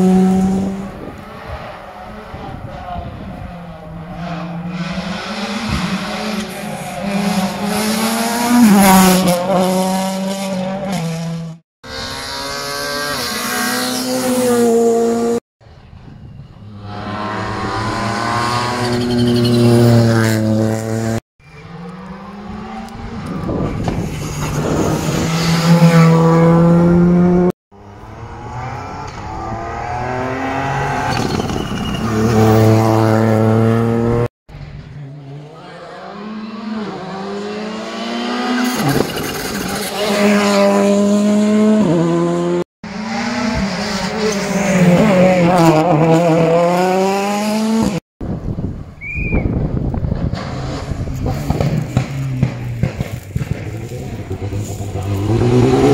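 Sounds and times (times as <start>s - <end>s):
rally cars passing at full speed: 0.0s - 15.4s, 16.0s - 48.8s, 49.6s - 55.9s.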